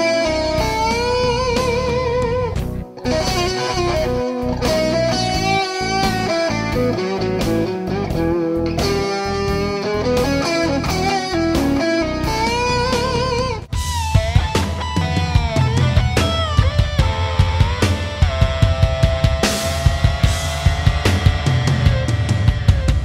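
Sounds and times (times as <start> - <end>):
electric guitar blues lick: 0.0 - 23.0.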